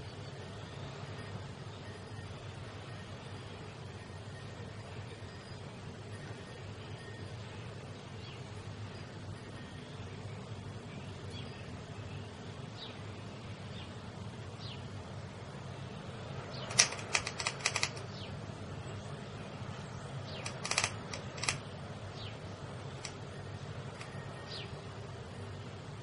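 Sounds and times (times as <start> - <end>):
faint high chirps: 0.0 - 14.9, 19.0 - 26.0.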